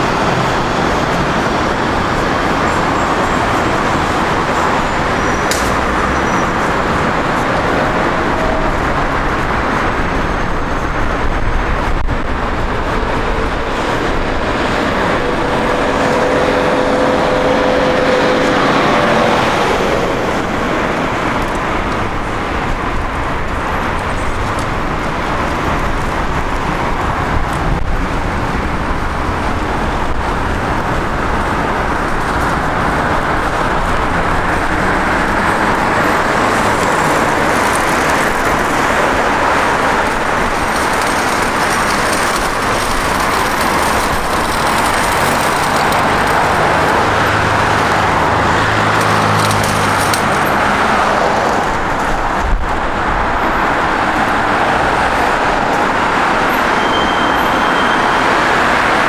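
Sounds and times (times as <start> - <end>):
low vehicle engine hum: 0.0 - 56.6
cars passing: 0.0 - 59.0.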